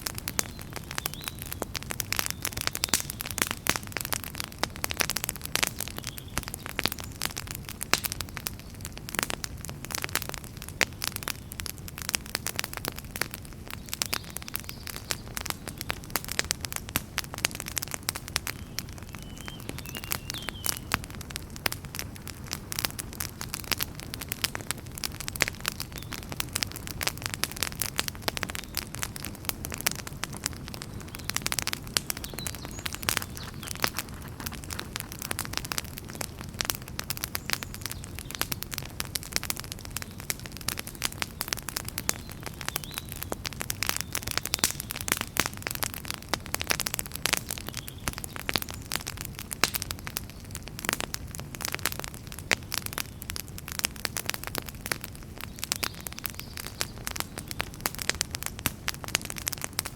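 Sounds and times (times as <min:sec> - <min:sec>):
low rumble of flame: 0:00.0 - 0:59.9
wood fire crackling and popping: 0:00.0 - 0:59.9.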